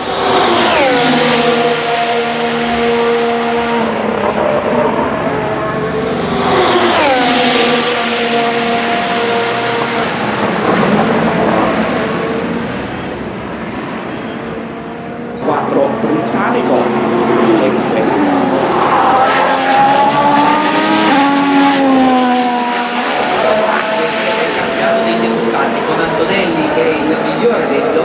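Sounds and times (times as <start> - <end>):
racing cars passing at speed: 0.0 - 28.0.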